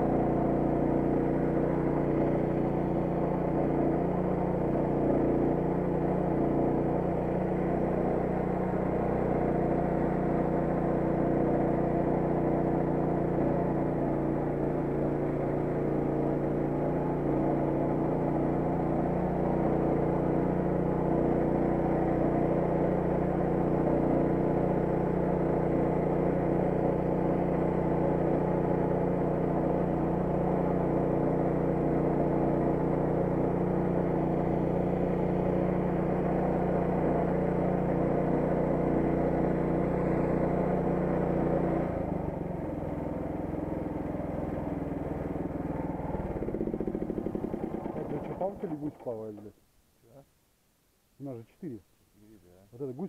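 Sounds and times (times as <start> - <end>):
engine running: 0.0 - 49.6.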